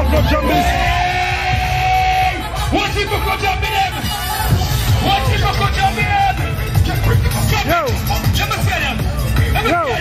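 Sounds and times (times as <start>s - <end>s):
dance music with heavy bass: 0.0s - 10.0s.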